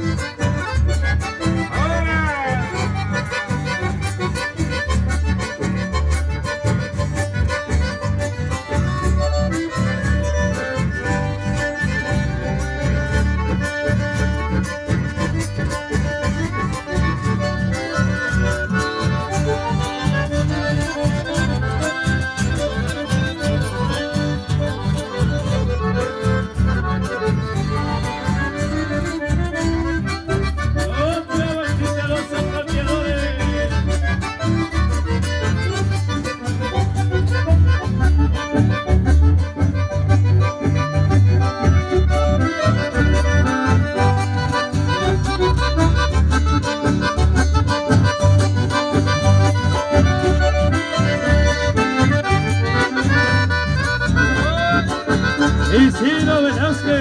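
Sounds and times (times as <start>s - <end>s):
accordion and bandoneon: 0.0s - 57.0s
electric bass: 0.0s - 57.0s
strummed acoustic guitars: 0.0s - 57.0s.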